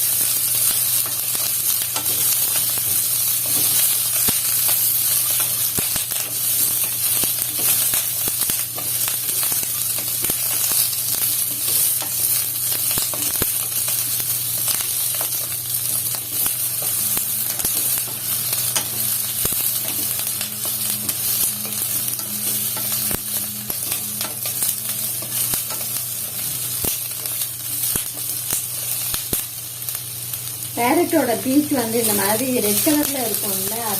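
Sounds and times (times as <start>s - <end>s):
peppers sizzling in oil: 0.0s - 33.9s.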